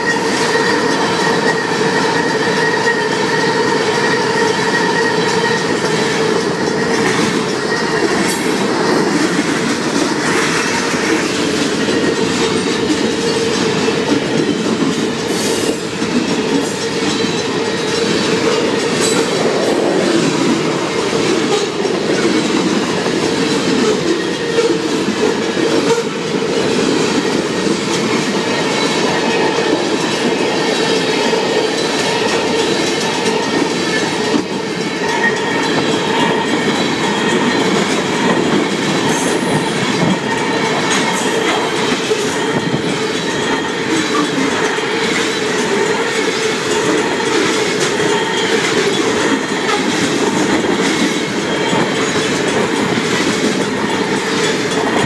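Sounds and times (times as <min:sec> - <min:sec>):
train wheels clattering over rail joints: 0:00.0 - 0:55.0
train wheels squealing: 0:00.0 - 0:55.0.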